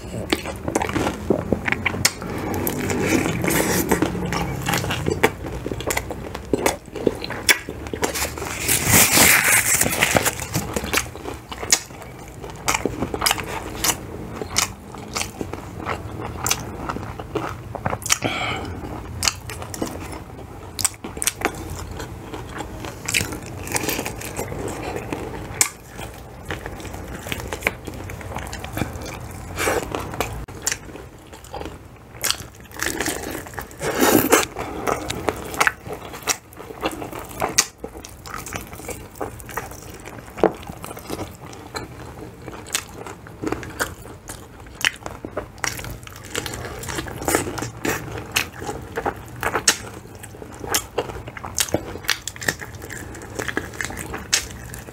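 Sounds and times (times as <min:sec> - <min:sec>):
crunching fried chicken: 0:00.0 - 0:54.9
wet chewing: 0:00.0 - 0:54.9.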